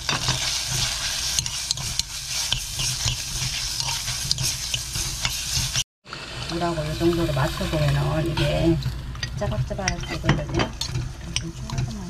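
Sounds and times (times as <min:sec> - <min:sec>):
metal spoon scraping a pot: 0:00.0 - 0:05.8, 0:07.9 - 0:12.0
food sizzling in a pot: 0:00.0 - 0:12.0.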